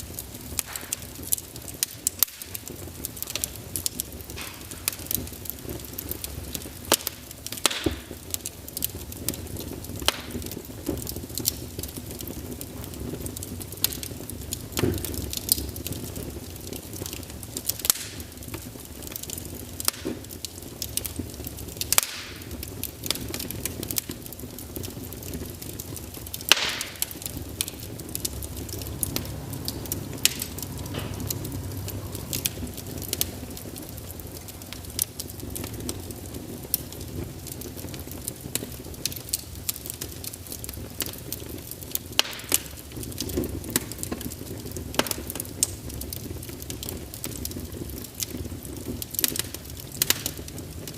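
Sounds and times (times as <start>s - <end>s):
fire flames rumbling: 0.0s - 50.9s
logs crackling and popping: 0.0s - 50.9s.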